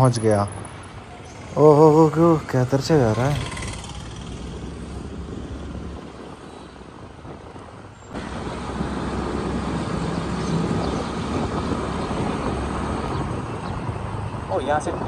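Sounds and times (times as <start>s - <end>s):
vehicle engine and road noise: 0.0s - 15.0s
loud rumbling: 0.6s - 15.0s.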